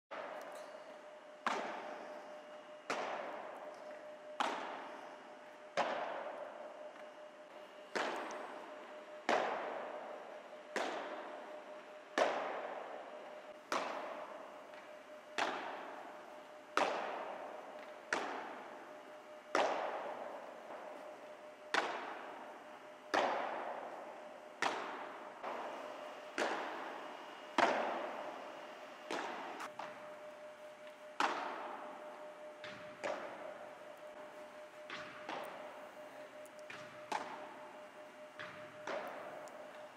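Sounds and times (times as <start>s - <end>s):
ball hit by rackets echoing: 0.1s - 39.9s
faint steady hum: 0.1s - 39.9s.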